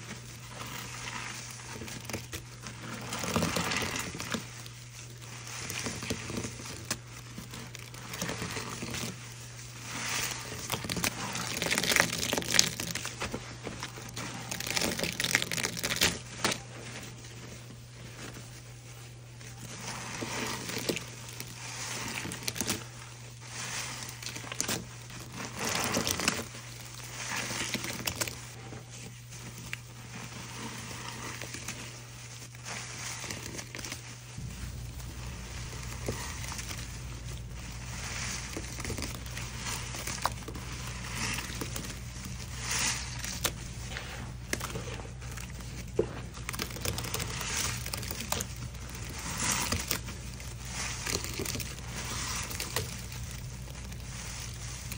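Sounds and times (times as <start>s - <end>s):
sponges squeezed in soapy foam: 0.0s - 54.9s.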